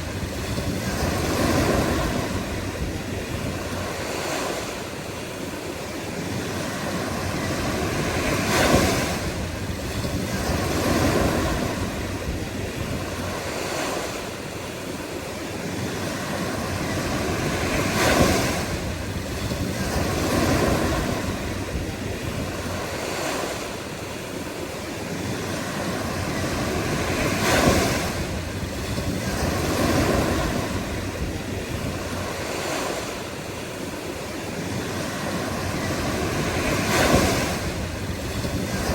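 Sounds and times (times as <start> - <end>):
continuous surf: 0.0 - 38.9
ocean waves breaking: 0.0 - 38.9.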